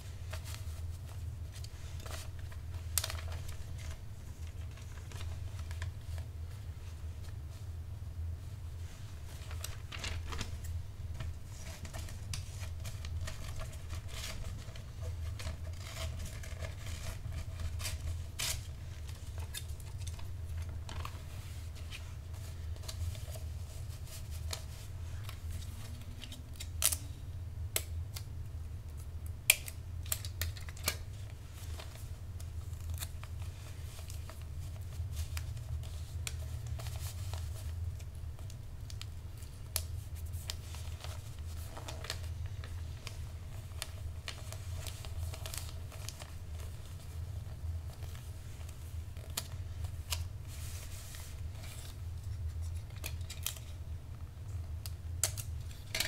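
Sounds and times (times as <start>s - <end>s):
steady low hum: 0.0s - 56.0s
paper handling: 0.1s - 7.5s, 9.2s - 27.1s, 29.5s - 56.0s.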